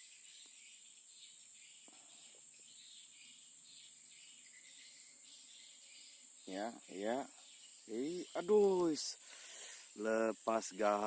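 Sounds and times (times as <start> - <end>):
cricket chirps: 0.0 - 11.0
insect drone: 0.0 - 11.0.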